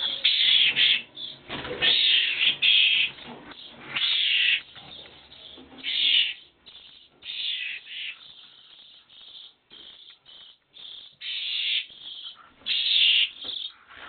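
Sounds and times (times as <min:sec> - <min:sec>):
nestling birds calling: 0:00.0 - 0:14.0.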